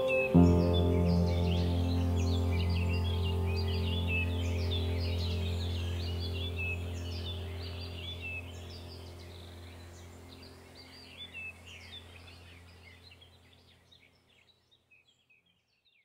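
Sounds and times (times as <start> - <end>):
low steady hum: 0.0 - 14.0
small birds chirping: 0.0 - 16.0.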